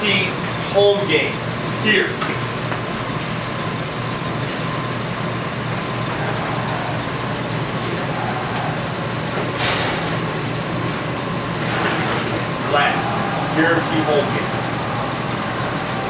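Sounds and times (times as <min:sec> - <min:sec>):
low machine-like hum: 0:00.0 - 0:16.0.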